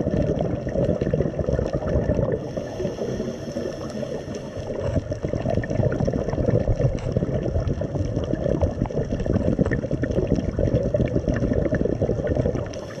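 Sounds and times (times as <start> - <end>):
muffled underwater water rush: 0.0 - 13.0.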